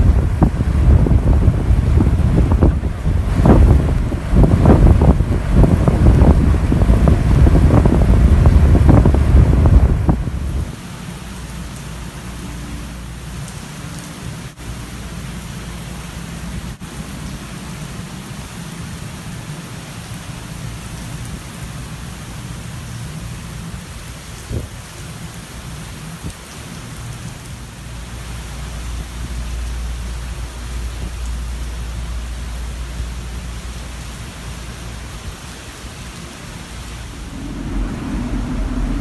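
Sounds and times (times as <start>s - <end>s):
hurricane wind: 0.0s - 12.6s, 13.3s - 39.0s
driving rain: 0.0s - 39.0s.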